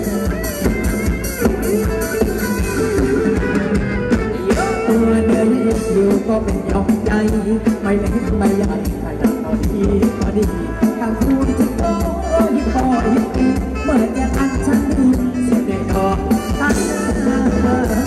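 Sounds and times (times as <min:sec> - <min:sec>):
live band dance music: 0:00.0 - 0:18.0.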